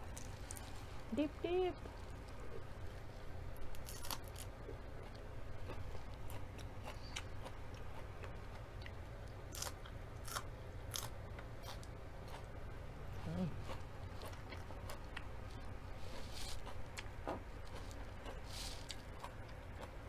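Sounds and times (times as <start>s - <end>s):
chewing crunchy leafy greens: 2.2s - 20.0s.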